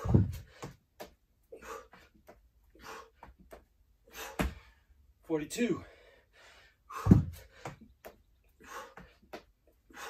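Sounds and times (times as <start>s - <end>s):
man breathing hard: 0.0s - 0.8s, 1.4s - 5.0s, 5.8s - 10.0s.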